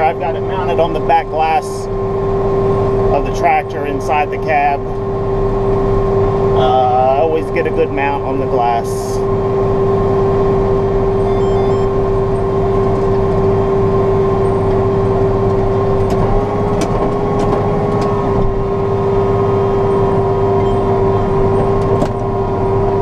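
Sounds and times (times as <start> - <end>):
tractor engine drone with whine: 0.0 - 23.0.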